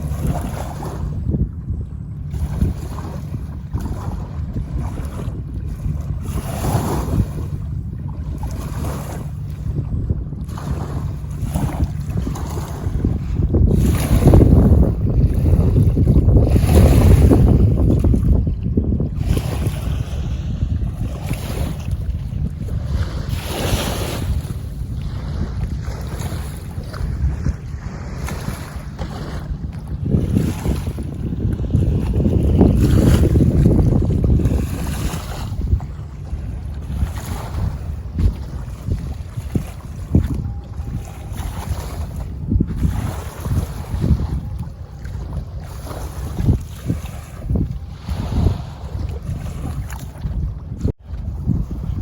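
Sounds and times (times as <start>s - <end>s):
river waves washing against bank: 0.0s - 1.6s, 2.2s - 52.0s
wind buffeting microphone: 0.0s - 52.0s.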